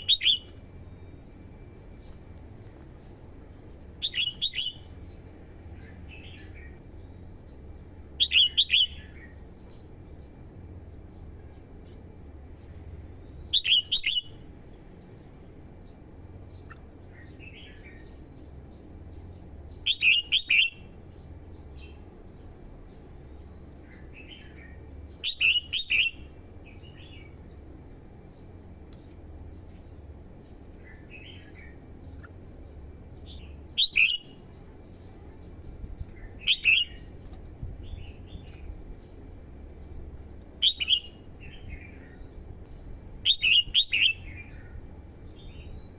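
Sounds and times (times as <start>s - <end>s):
bulbul singing: 0.0s - 45.9s.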